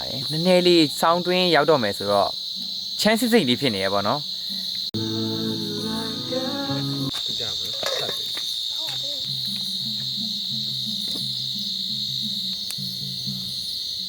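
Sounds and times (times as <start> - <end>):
crickets and insects trilling: 0.0 - 14.0.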